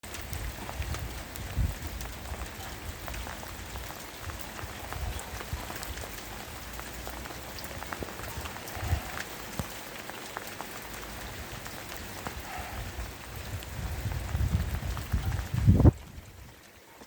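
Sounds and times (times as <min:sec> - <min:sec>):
pouring rain hiss: 0:00.0 - 0:17.0
water dripping and splashing: 0:00.0 - 0:17.0.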